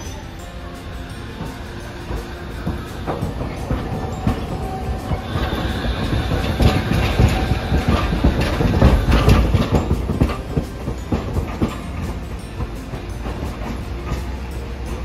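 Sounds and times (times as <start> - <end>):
streetcar rumbling past: 0.0 - 15.0
wheels clattering over track: 0.0 - 15.0.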